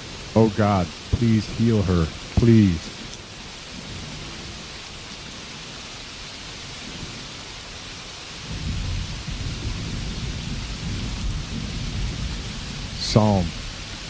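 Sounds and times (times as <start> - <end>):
thunder rumbling: 0.0 - 5.8, 8.4 - 14.0
steady rainfall: 0.0 - 14.0.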